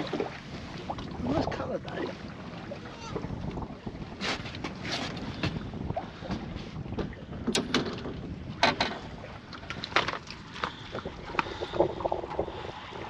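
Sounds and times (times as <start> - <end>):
knocks and clatters on boat: 0.0 - 12.9
wind buffeting microphone: 0.0 - 13.0.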